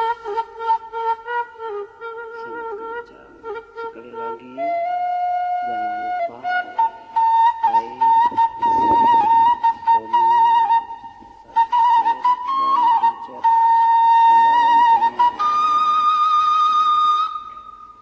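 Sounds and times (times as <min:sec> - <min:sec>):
flute-like whistling: 0:00.0 - 0:18.0.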